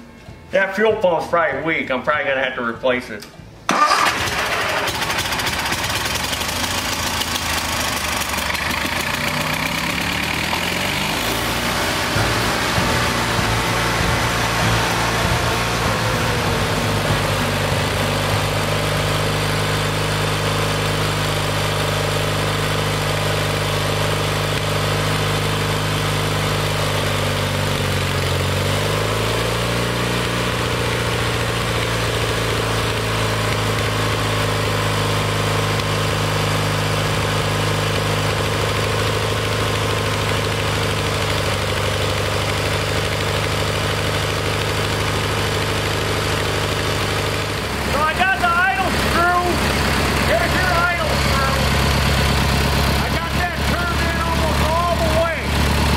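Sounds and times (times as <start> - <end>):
engine running steadily: 3.2 - 55.9.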